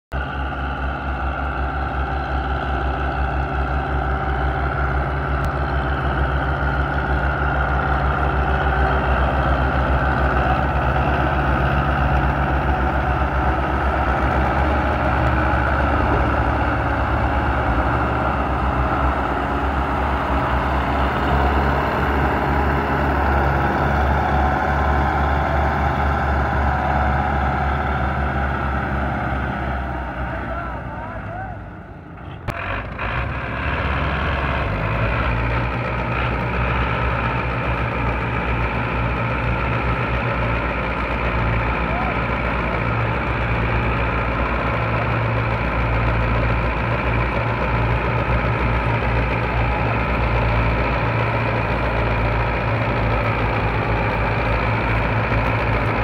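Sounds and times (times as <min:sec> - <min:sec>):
tractor diesel engine under load: 0:00.1 - 0:56.0.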